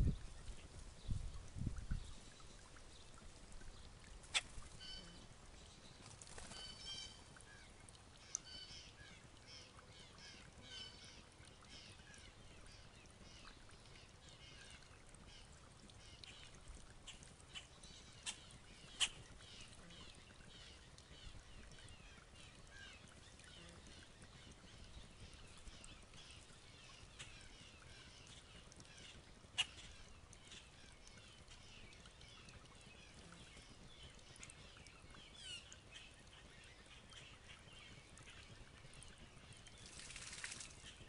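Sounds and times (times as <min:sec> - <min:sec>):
faint songbirds chirping: 0:00.0 - 0:41.0.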